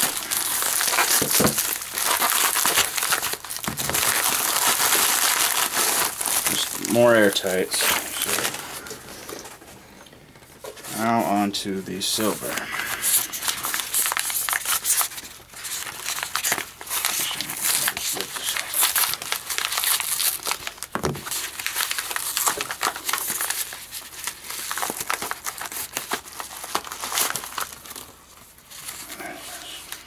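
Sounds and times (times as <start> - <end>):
paper crinkling and tearing: 0.0 - 9.6, 10.7 - 30.0.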